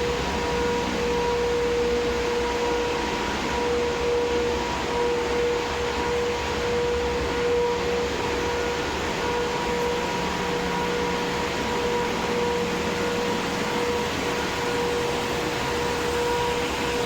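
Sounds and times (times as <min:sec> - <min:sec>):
industrial machinery running: 0:00.0 - 0:17.0.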